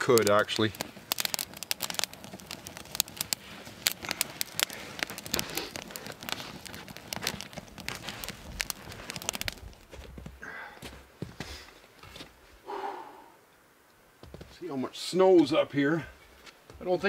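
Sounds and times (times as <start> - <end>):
campfire crackling and popping: 0.0 - 12.7, 13.8 - 17.0.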